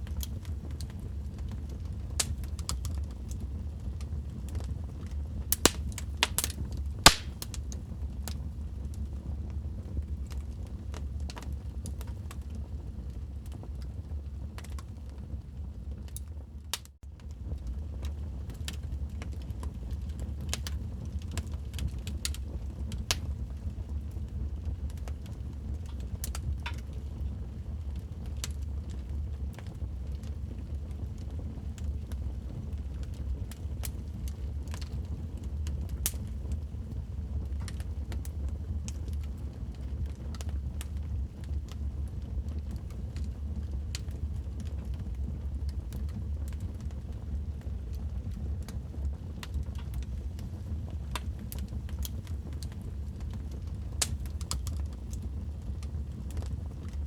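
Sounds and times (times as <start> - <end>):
fire pops and snaps: 0.0 - 15.2, 16.0 - 57.0
low fire rumble: 0.0 - 57.0
wood fire crackling: 0.0 - 57.0.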